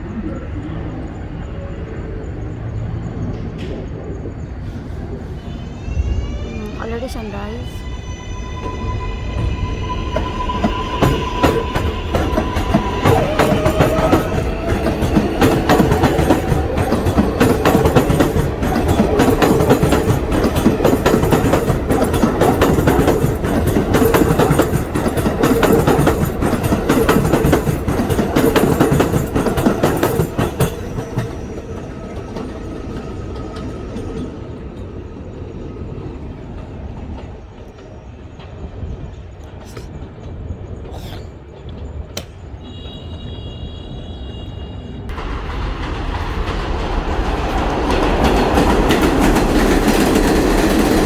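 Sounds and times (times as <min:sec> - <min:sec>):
train wheels clattering on rails: 0:08.6 - 0:44.3, 0:45.1 - 0:51.0.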